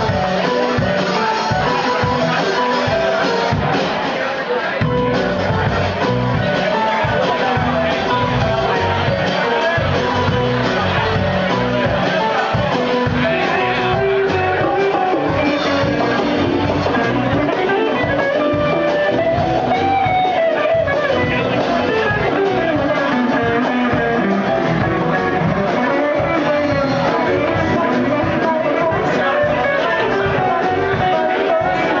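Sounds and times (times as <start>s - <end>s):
drum kit: 0.0s - 32.0s
electric guitar: 0.0s - 32.0s
hand drums: 4.8s - 32.0s.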